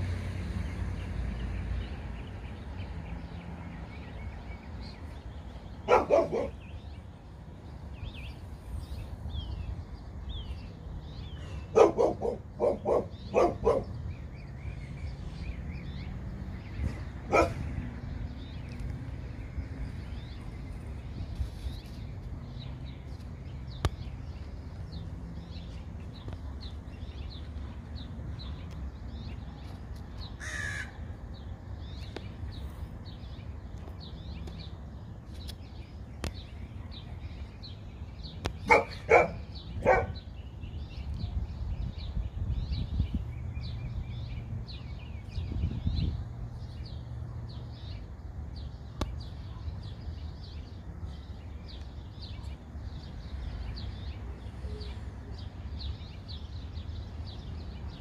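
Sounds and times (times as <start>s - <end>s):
continuous high chirping: 1.0s - 30.4s, 31.2s - 58.0s
loud bird calls: 1.1s - 29.5s, 30.1s - 58.0s.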